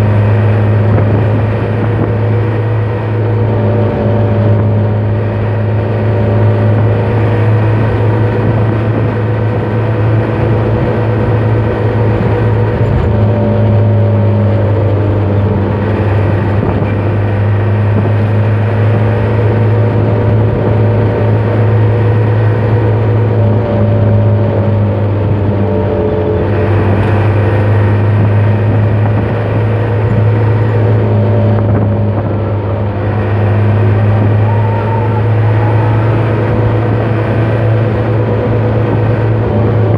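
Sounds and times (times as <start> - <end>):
truck engine humming: 0.0 - 39.9.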